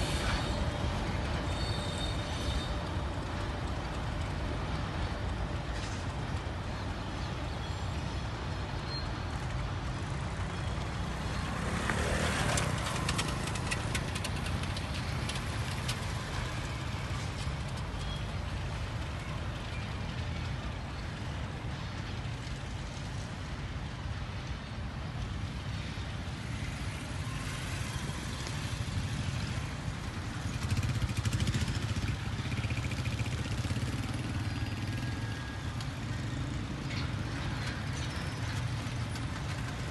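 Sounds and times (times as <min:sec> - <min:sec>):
motorcycles passing: 0:00.0 - 0:24.4, 0:25.0 - 0:39.9
diesel locomotive engine drone: 0:00.0 - 0:39.9
train track noise: 0:00.0 - 0:39.9.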